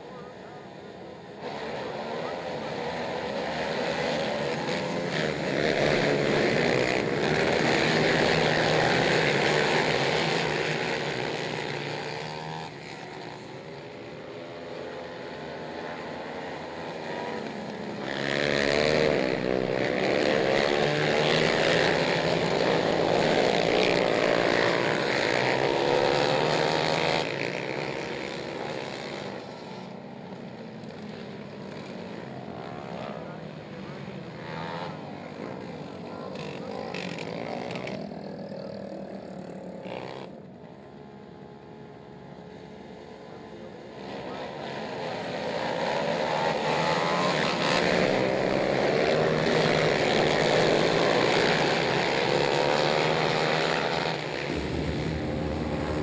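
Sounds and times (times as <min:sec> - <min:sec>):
quad engines at full throttle: 0:00.0 - 0:56.0.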